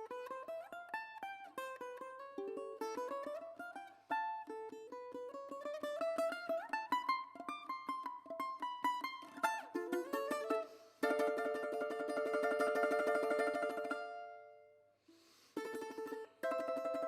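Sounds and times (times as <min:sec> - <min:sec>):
plucked string instrument music: 0:00.0 - 0:17.0.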